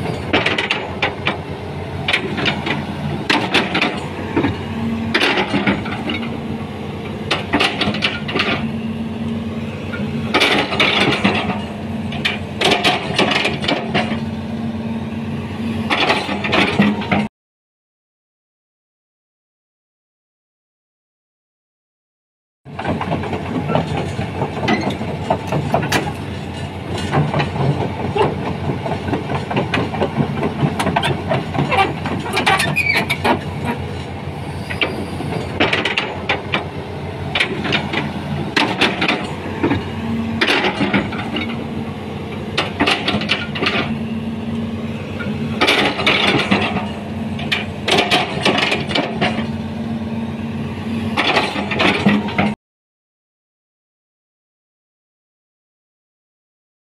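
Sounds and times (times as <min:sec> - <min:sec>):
excavator diesel engine running: 0:00.0 - 0:17.3, 0:22.7 - 0:52.6
metallic clanks of steel tracks: 0:00.0 - 0:17.3, 0:22.7 - 0:52.6.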